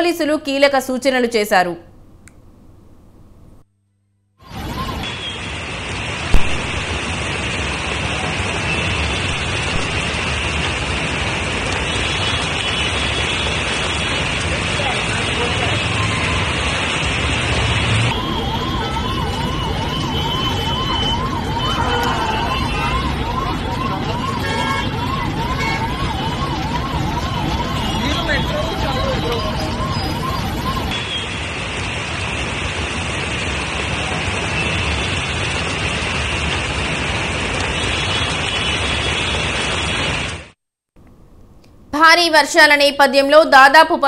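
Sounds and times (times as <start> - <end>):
emergency vehicle siren: 4.4 - 40.6
heavy rain pouring: 4.4 - 40.6
street noise: 4.4 - 40.6
traffic: 4.5 - 40.5.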